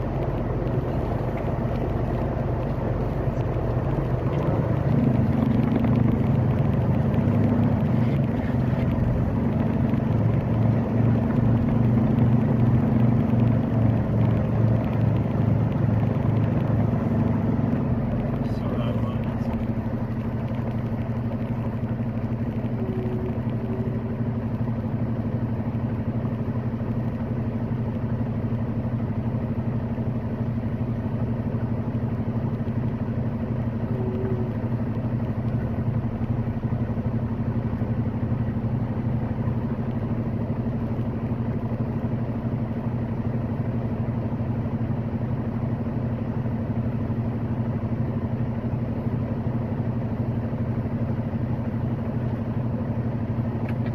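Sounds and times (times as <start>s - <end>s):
road noise: 0.0s - 53.9s
truck diesel engine droning: 0.0s - 53.9s.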